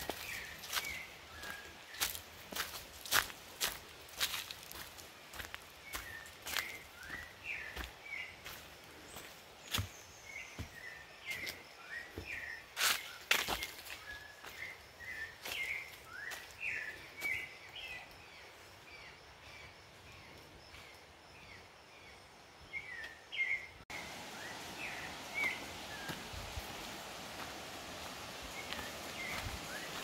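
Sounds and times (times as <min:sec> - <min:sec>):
forest ambience hiss: 0:00.0 - 0:30.0.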